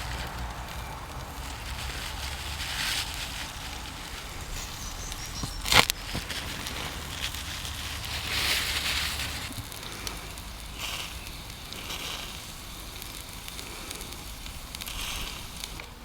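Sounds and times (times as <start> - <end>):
steak sizzling over charcoal: 0.0 - 15.9
coals crackling: 0.0 - 16.0.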